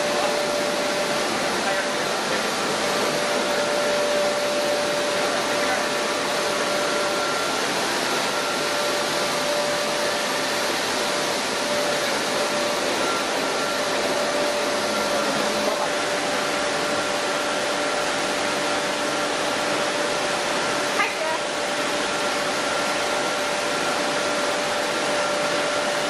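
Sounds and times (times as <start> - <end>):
milling machine running: 0.0 - 26.0.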